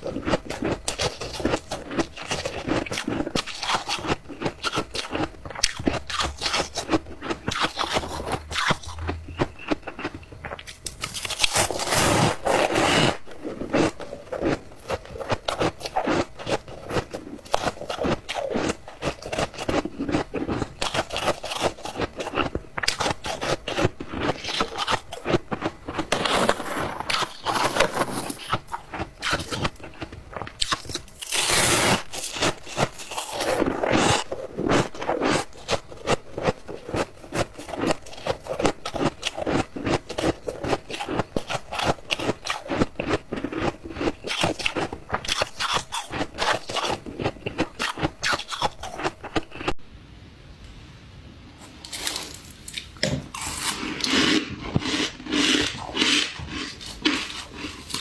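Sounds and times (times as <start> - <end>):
ice being chewed: 0.0 - 49.8, 51.8 - 58.0.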